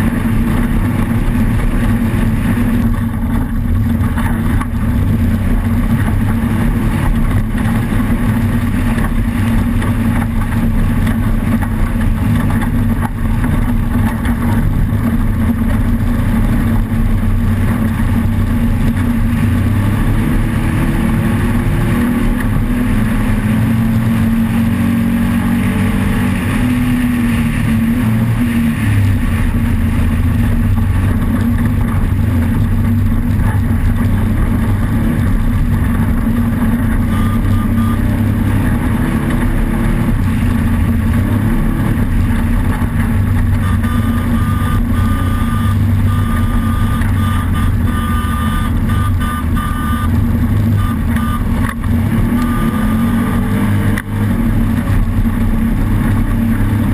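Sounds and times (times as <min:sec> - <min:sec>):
constant rough noise: 0:00.0 - 0:56.9
race vehicle engine running hard: 0:00.0 - 0:56.9.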